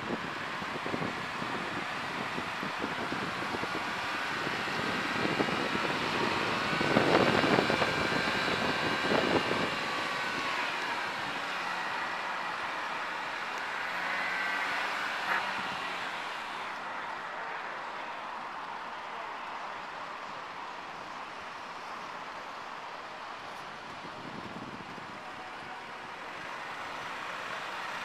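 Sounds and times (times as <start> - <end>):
car engine driving: 0.0 - 28.0.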